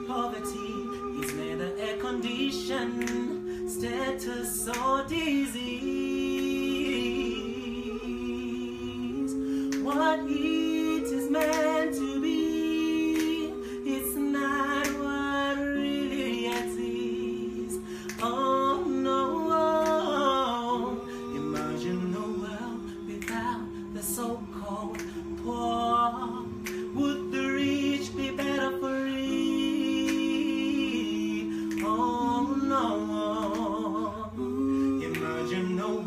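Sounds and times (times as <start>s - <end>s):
held accompanying chords: 0.0s - 36.0s.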